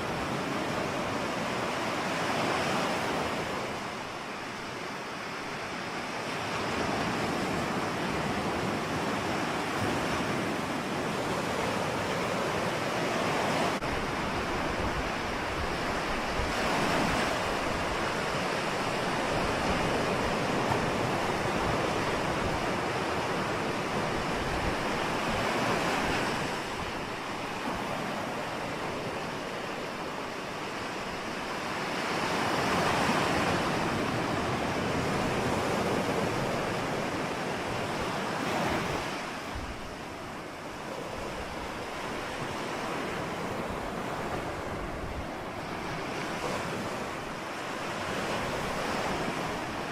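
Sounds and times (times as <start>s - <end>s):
ocean waves breaking: 0.0s - 49.9s.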